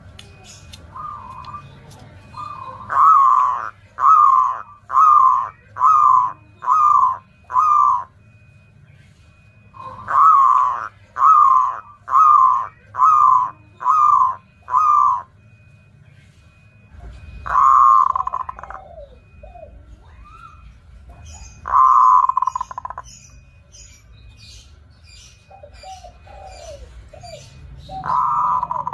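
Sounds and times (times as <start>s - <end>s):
dove cooing: 0.3s - 8.5s, 9.3s - 15.7s, 16.3s - 23.2s, 25.3s - 28.9s.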